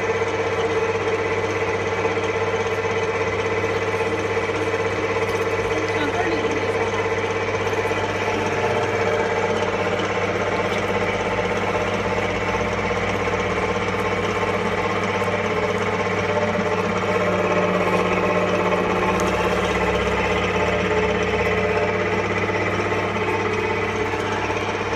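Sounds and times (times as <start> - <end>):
meat grinder motor running: 0.0 - 24.9.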